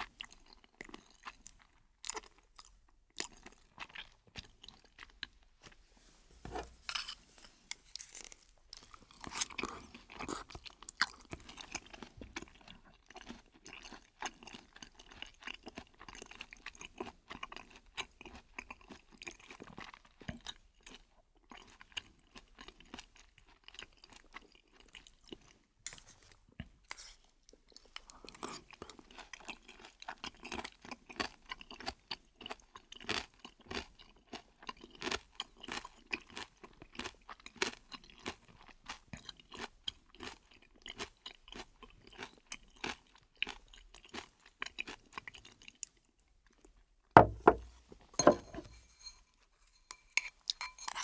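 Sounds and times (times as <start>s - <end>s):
person chewing food: 0.0s - 5.8s, 6.5s - 51.0s.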